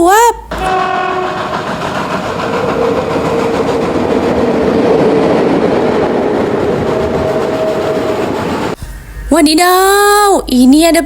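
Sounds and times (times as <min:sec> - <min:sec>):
steam train rumbling clatter: 0:00.5 - 0:09.5.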